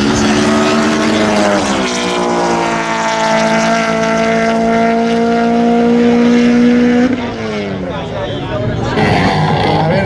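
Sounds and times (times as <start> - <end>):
race car engines at full throttle: 0.0 - 10.0.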